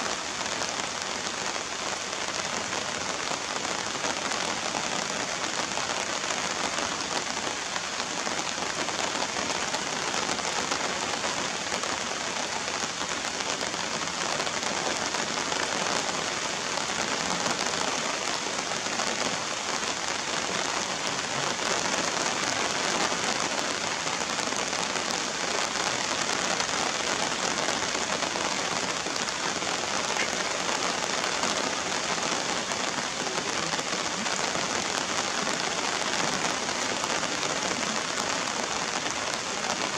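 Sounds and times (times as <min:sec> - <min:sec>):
rain on wet ground: 0:00.0 - 0:39.9.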